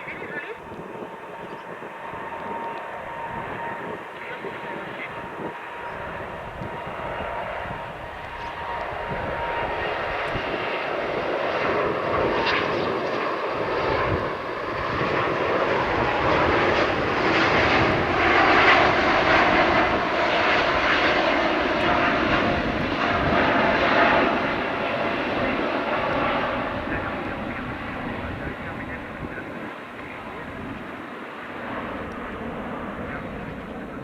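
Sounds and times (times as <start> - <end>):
jet engines roaring at takeoff: 0.0 - 34.0.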